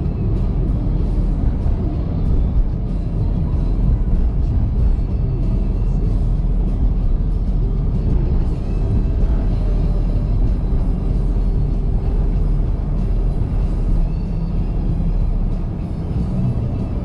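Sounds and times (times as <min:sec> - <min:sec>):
car driving rumble: 0:00.0 - 0:17.0
soft background music: 0:00.0 - 0:17.0.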